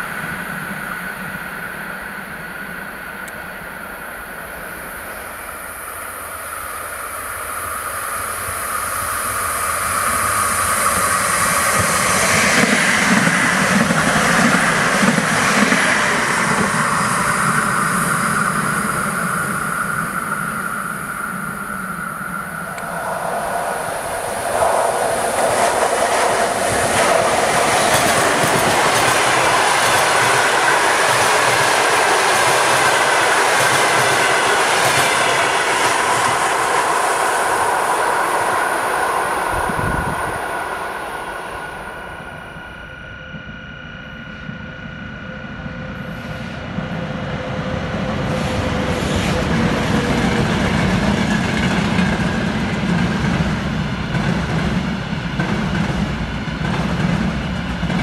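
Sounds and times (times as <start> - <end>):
train running past: 0.0 - 58.0
train wheels rumbling on rail: 0.0 - 58.0.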